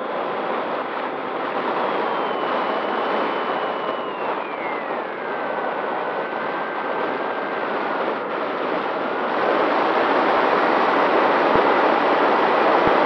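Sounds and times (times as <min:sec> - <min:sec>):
wind rushing over camera: 0:00.0 - 0:13.0.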